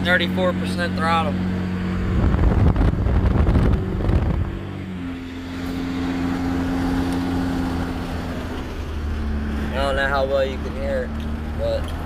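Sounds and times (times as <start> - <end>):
diesel engine pulling: 0.0 - 12.0.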